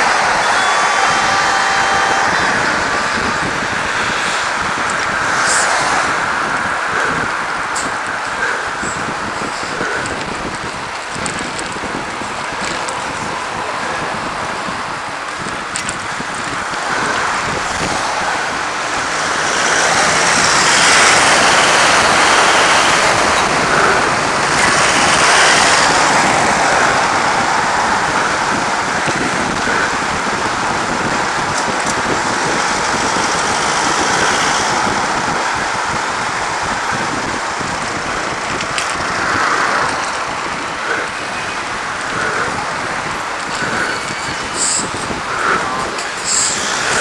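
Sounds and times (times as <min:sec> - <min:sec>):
road traffic noise: 0:00.0 - 0:47.0
wind rushing over microphone: 0:00.0 - 0:47.0.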